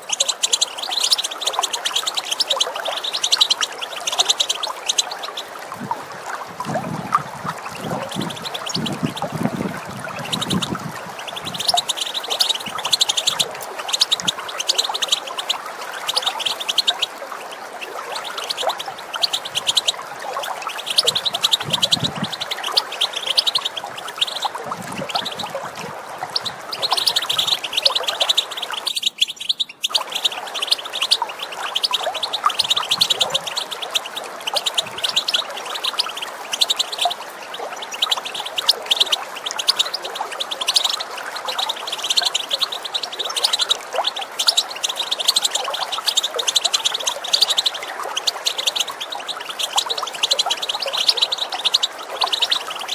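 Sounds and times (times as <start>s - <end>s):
goldfinches twittering and calling: 0.0s - 52.9s
running water: 0.0s - 52.9s
water gurgling: 0.0s - 52.9s.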